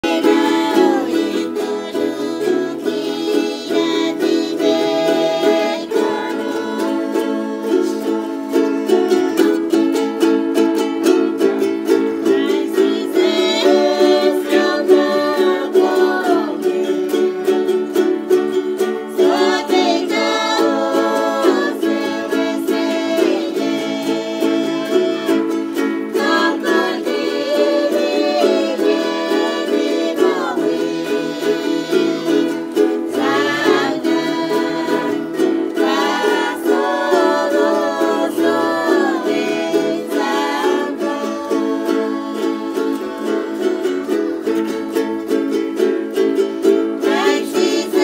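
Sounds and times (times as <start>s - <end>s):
person singing: 0.0s - 48.0s
ukulele strumming chords: 0.0s - 48.0s.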